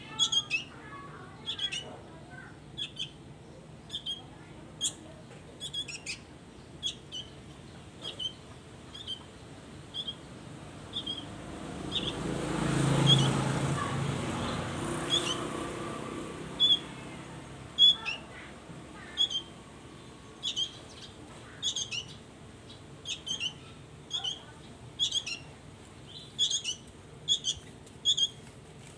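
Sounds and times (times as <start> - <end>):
songbirds chirping: 0.0 - 28.9.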